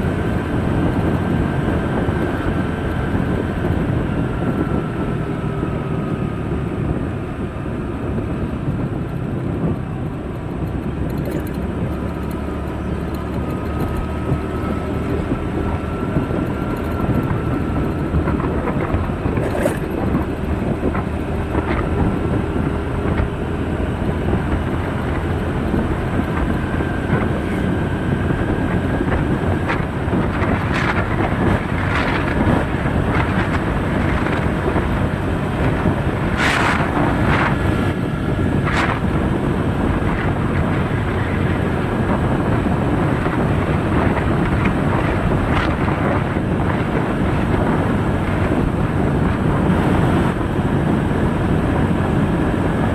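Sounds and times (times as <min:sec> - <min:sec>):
moving vehicle rumble: 0:00.0 - 0:52.9
wind noise: 0:00.0 - 0:52.9.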